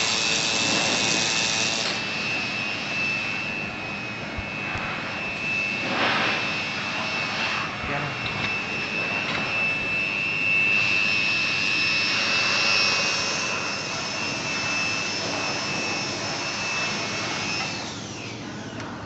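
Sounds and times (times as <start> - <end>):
laser welding machine hiss and whine: 0.0 - 19.0.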